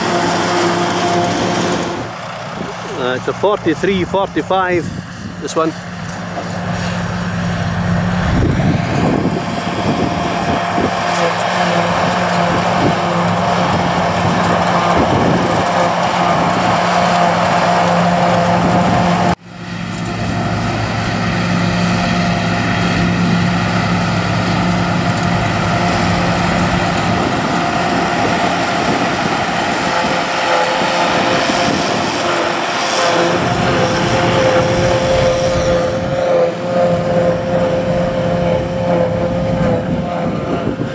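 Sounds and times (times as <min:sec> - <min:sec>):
forage harvester whine: 0:00.0 - 0:40.9
tractor engine drone: 0:00.0 - 0:40.9.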